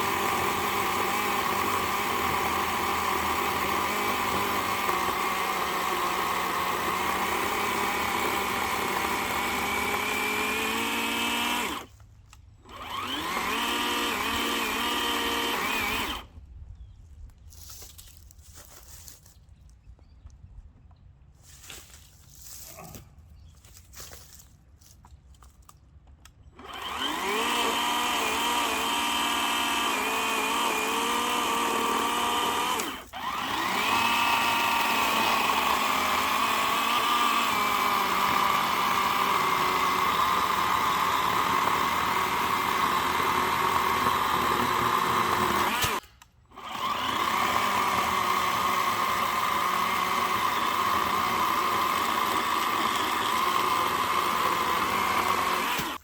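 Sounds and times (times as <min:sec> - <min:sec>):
cordless chainsaw running: 0:00.0 - 0:11.9, 0:12.6 - 0:16.4, 0:26.6 - 0:56.0.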